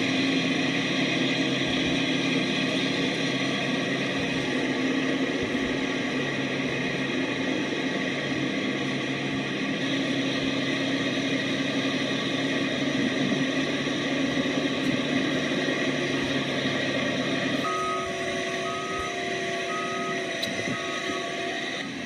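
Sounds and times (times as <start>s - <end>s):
low drone: 0.0s - 22.0s.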